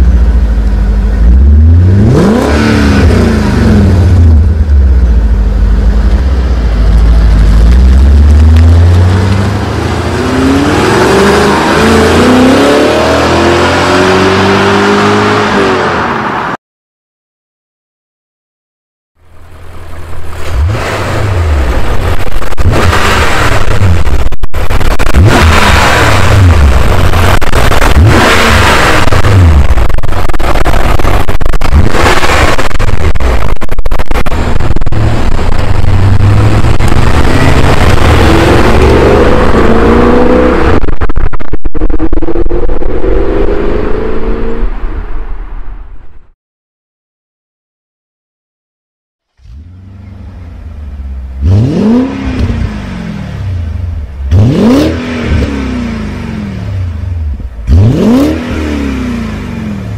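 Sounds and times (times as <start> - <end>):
car engine revving: 0.0 - 16.4, 19.6 - 45.1, 49.4 - 59.9.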